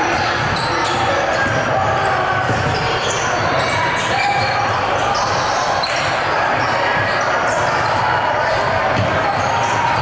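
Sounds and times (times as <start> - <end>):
crowd chatter: 0.0 - 10.0
basketball bouncing on court: 0.1 - 4.6, 5.2 - 10.0.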